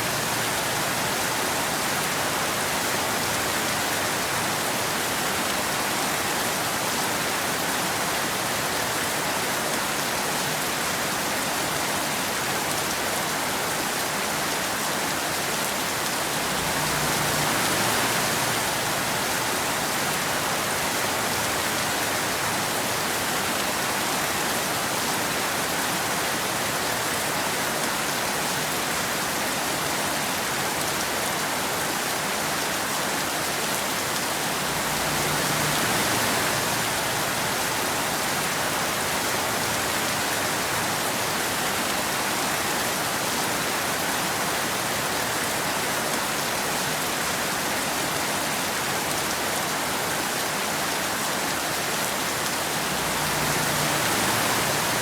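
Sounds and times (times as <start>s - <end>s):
rain falling on a road: 0.0s - 55.0s.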